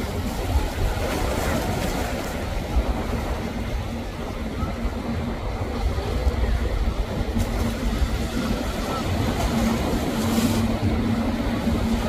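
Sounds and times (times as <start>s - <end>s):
motorboat engine drone: 0.0s - 12.0s
waves washing: 0.0s - 12.0s
wind rumble on microphone: 0.0s - 12.0s.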